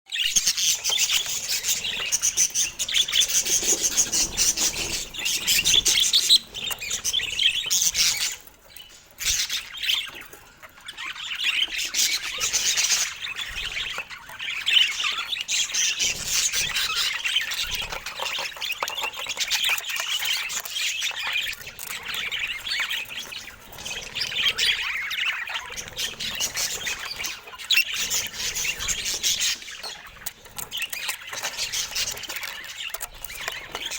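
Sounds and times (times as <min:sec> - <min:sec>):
budgerigars chirping: 0:00.1 - 0:33.9.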